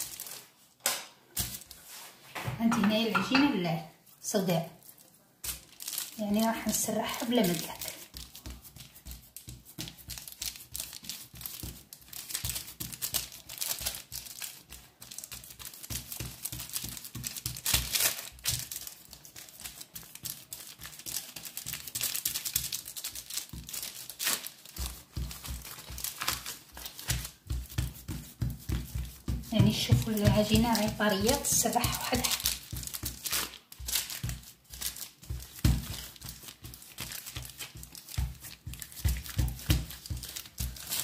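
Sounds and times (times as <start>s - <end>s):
baking paper crinkling: 0.0s - 41.0s.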